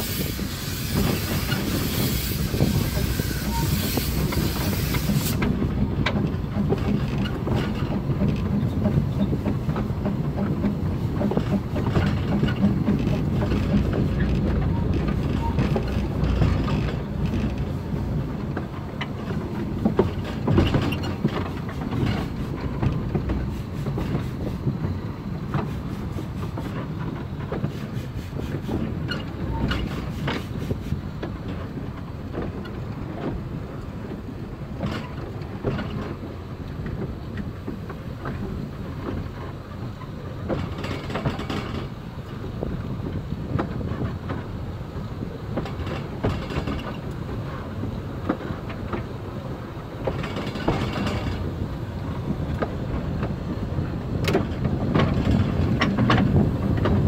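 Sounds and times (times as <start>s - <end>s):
steam locomotive rumble and rattle: 0.0s - 57.0s
wheels clicking over rail joints: 0.0s - 57.0s.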